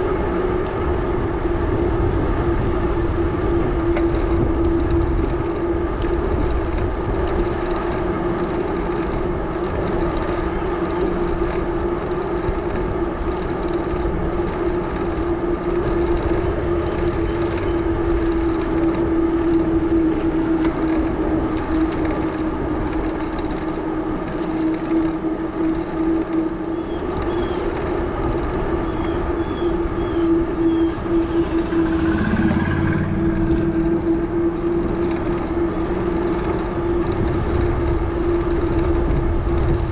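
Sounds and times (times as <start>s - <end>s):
bicycle tyres humming on pavement: 0.0s - 39.9s
road noise: 0.0s - 39.9s.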